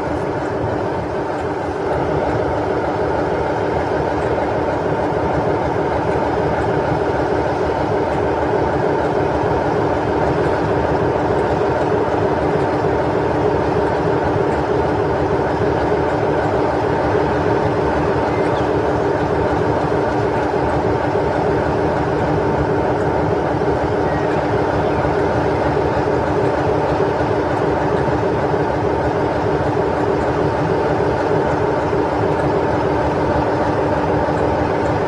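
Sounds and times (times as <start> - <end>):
diesel locomotive idling: 0.0 - 35.0.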